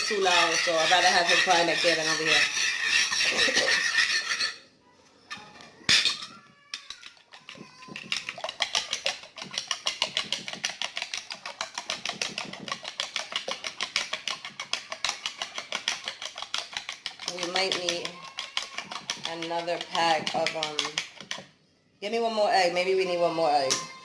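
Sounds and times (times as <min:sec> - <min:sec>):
eggs beaten in a bowl: 0:00.0 - 0:04.6, 0:05.3 - 0:21.6.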